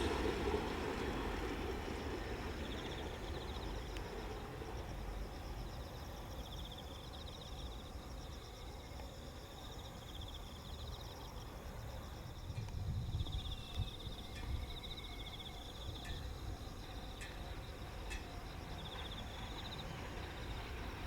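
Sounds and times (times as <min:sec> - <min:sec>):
insects chirping in trills: 0:00.0 - 0:21.0.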